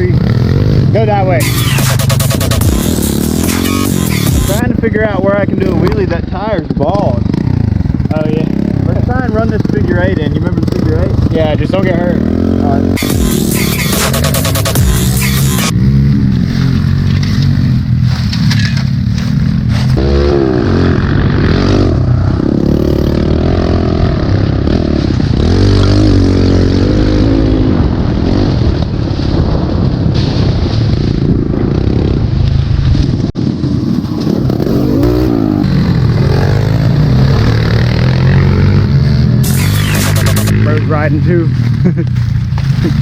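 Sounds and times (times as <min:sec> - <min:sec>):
pit bike engine revving: 0:00.0 - 0:28.7, 0:33.4 - 0:43.0.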